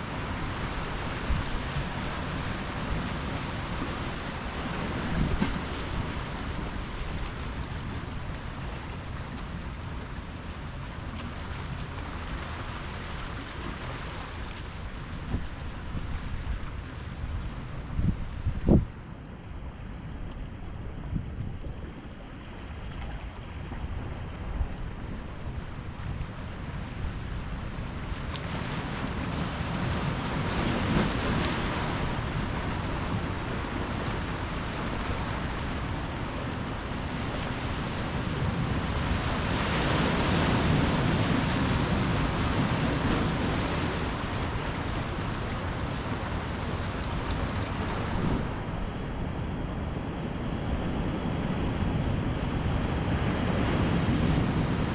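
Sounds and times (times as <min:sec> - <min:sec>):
surf washing against shore: 0:00.0 - 0:19.1, 0:21.6 - 0:54.9
wind rumble on microphone: 0:00.0 - 0:54.9.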